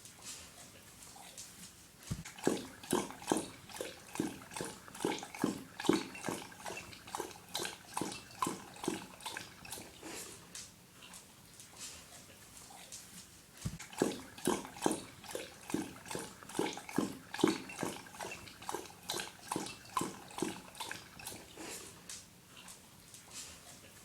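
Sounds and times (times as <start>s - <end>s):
dog lapping water: 2.0s - 12.6s, 13.5s - 24.0s.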